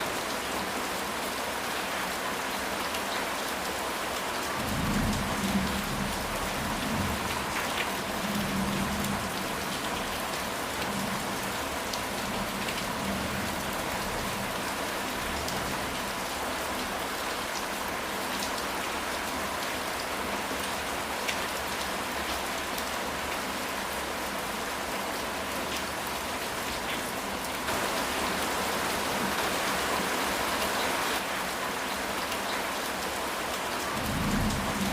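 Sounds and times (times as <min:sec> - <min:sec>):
rain on a roof: 0:00.0 - 0:34.9.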